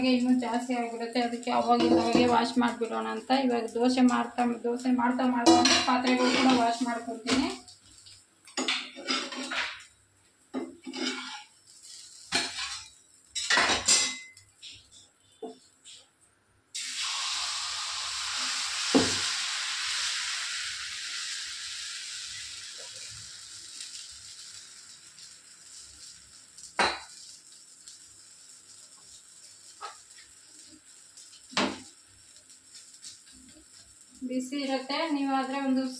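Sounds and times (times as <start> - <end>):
batter sizzling on hot griddle: 0.0 - 16.1, 16.7 - 35.9.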